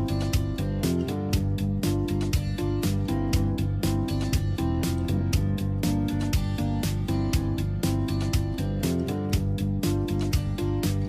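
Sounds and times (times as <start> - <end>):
plucked guitar-like notes: 0.0 - 11.0
steady beat: 0.0 - 11.0.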